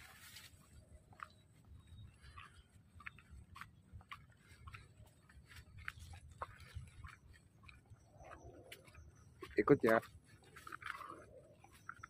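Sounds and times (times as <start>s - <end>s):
footsteps crunching on dry leaves: 0.0s - 1.3s, 3.0s - 11.9s.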